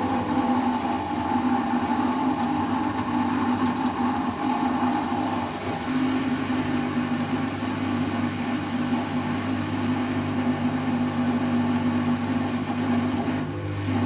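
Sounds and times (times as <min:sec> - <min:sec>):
washing machine spinning: 0:00.0 - 0:14.0.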